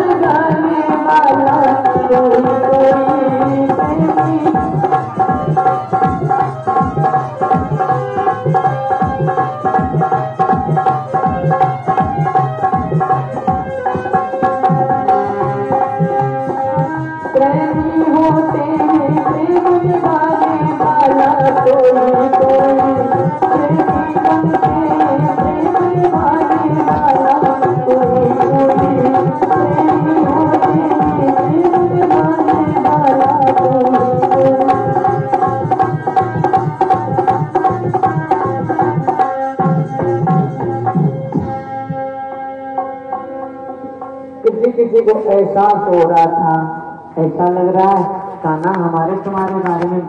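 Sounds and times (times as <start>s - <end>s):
tabla rhythm: 0.0s - 50.0s.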